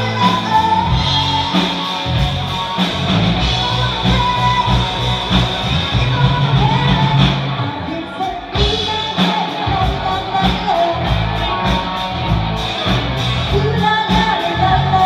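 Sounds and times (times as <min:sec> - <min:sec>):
drum kit beat: 0:00.0 - 0:15.0
keyboards: 0:00.0 - 0:15.0
live rock band playing: 0:00.0 - 0:15.0
person singing lead vocal: 0:00.0 - 0:15.0.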